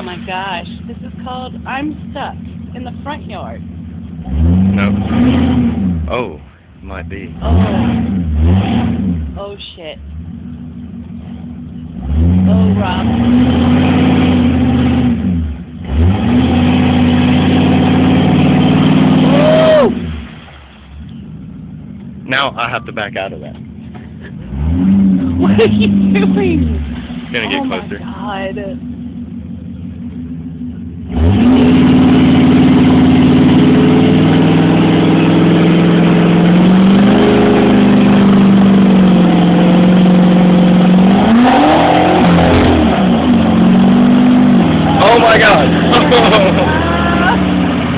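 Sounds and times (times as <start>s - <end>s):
pickup engine revving: 0.0s - 47.9s.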